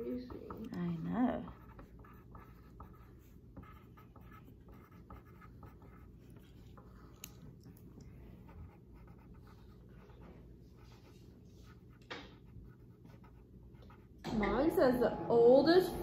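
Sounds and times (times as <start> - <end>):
pen scratching on paper: 0.0 - 7.1, 8.4 - 14.2
steady low hum: 0.0 - 16.0.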